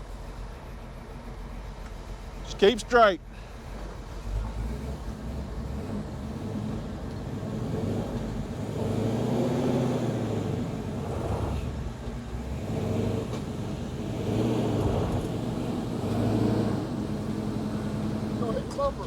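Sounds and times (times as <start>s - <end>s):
truck engine under light throttle: 0.0s - 19.0s.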